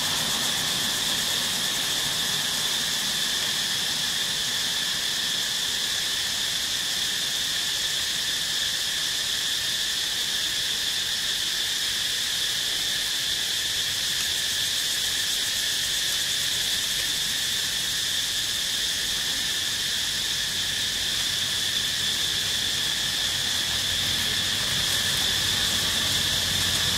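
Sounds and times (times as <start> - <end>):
insects buzzing: 0.0 - 26.9.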